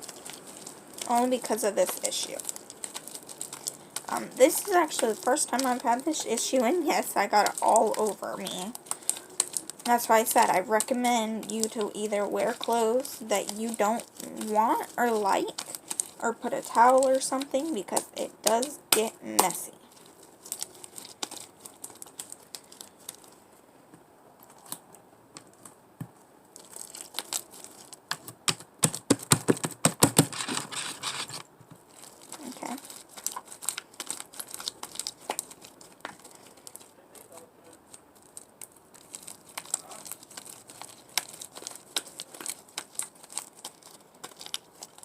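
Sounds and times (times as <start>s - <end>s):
slime kneaded by hand: 0.0s - 23.4s, 24.4s - 45.0s.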